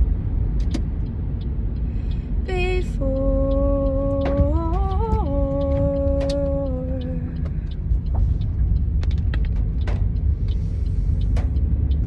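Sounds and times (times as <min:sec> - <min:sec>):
car cabin rumble: 0:00.0 - 0:12.0
light ticks: 0:00.6 - 0:12.0.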